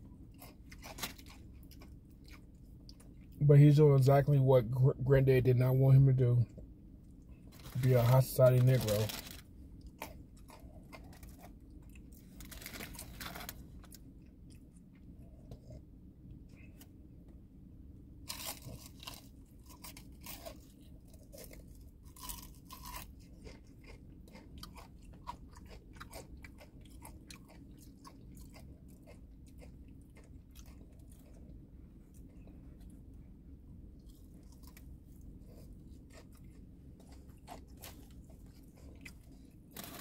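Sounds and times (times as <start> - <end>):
chewing and crunching fried chicken: 0.0 - 5.4, 6.4 - 17.1, 18.1 - 40.0
low hum: 0.0 - 40.0.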